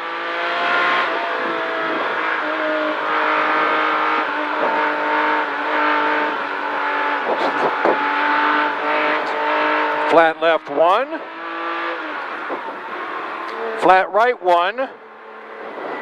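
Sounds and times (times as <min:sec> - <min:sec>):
car engine revving hard: 0:00.0 - 0:16.0.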